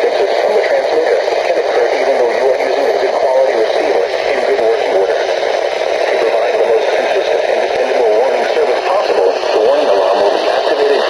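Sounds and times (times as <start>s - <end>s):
muffled voice on radio: 0.0s - 11.0s
radio static hiss: 0.0s - 11.0s.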